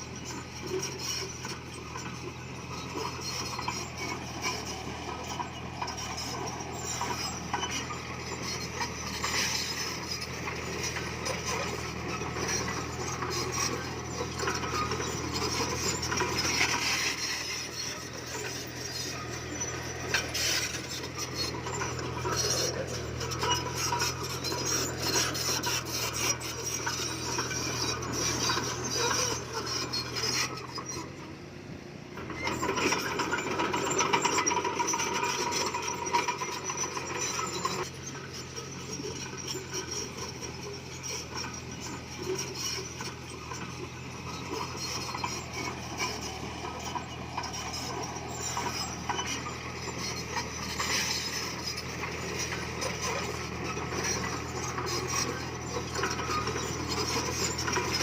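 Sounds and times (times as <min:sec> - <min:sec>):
tracks grinding and scraping stone: 0:00.0 - 0:31.4, 0:32.1 - 0:58.0
bulldozer diesel engine running: 0:00.0 - 0:58.0.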